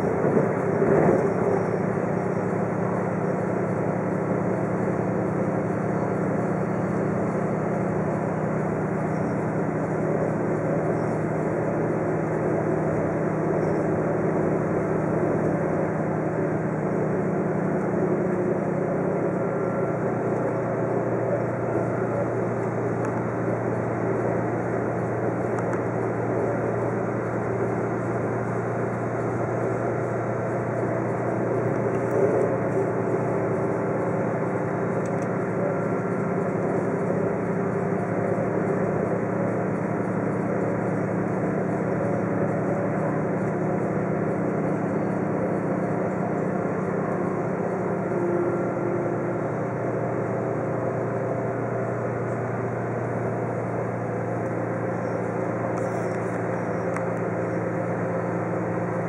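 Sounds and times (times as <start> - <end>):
rumbling of moving train: 0.0 - 59.0
train engine hum: 0.0 - 59.0.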